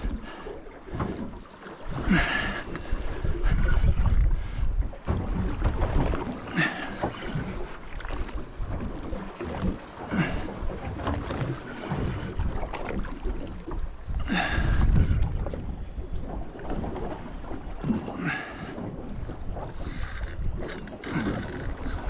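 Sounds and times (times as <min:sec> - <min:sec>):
water washing against boat hull: 0:00.0 - 0:22.0
wind buffeting microphone: 0:02.0 - 0:22.0.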